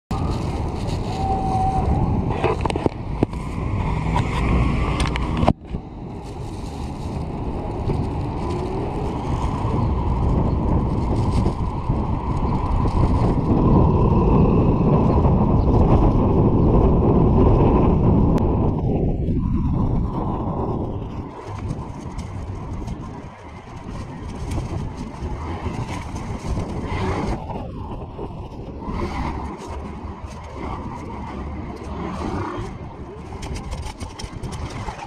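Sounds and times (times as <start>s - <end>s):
electric bike riding noise: 0.1s - 35.0s
street traffic: 0.1s - 35.0s.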